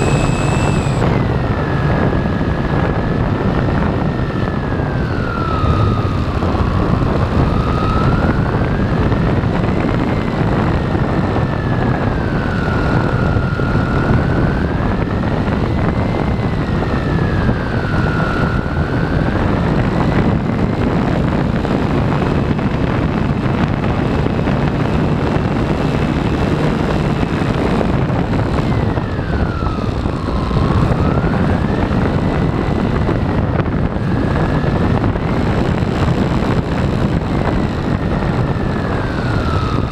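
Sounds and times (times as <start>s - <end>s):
motor and propeller whine: 0.0s - 39.9s.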